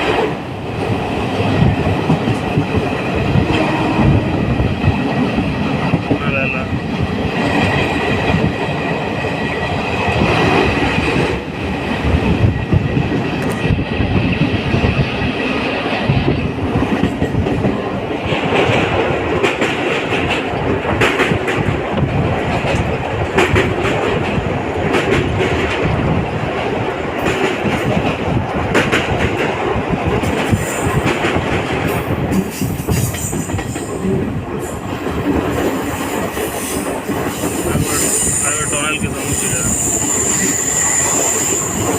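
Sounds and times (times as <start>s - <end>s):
train wheels clattering over rail joints: 0.0s - 41.9s.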